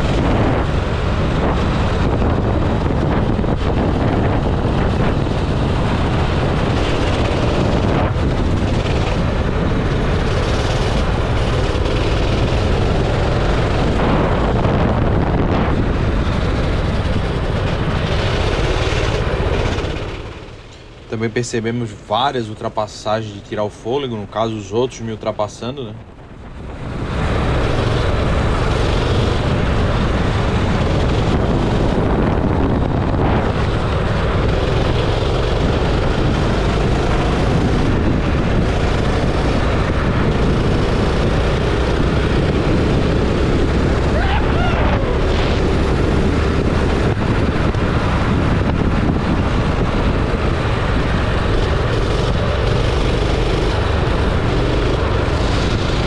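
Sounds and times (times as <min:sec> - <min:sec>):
go-kart engine running: 0:00.0 - 0:23.0, 0:25.6 - 0:56.0
wind buffeting microphone: 0:00.0 - 0:56.0.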